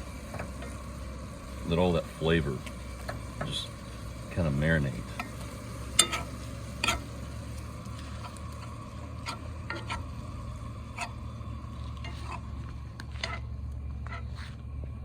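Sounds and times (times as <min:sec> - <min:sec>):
meat sizzling in a pan: 0:00.0 - 0:12.6.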